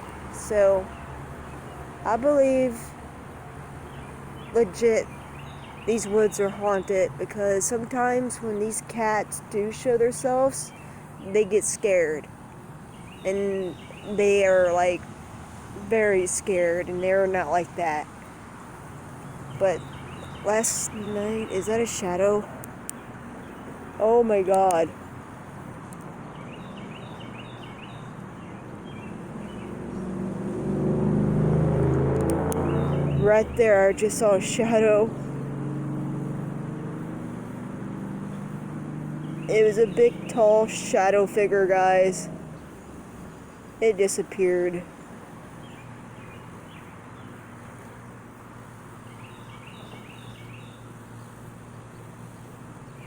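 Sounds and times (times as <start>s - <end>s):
outdoor background hiss: 0.0s - 53.0s
vehicle engine hum approaching: 0.0s - 53.0s.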